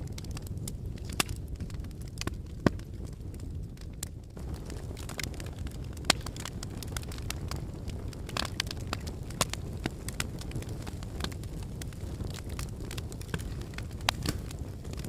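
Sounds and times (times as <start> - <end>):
fire crackling and popping: 0.0 - 15.0
flames rumbling: 0.0 - 15.0.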